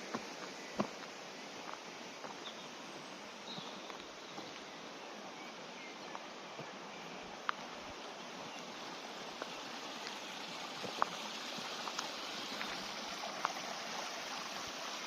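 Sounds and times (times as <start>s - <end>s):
light footsteps on a path: 0.0s - 14.7s
river water rushing: 0.0s - 15.0s.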